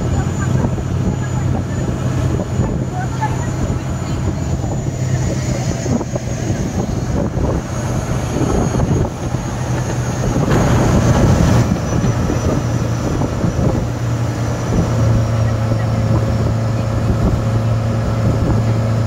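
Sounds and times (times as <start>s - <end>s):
boat engine running: 0.0s - 19.0s
rush of wind and water: 0.0s - 19.0s.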